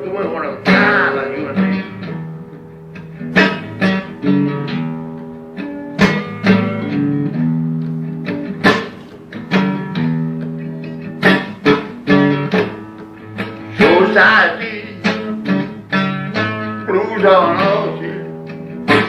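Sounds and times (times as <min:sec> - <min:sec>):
blues guitar playing: 0:00.0 - 0:19.0.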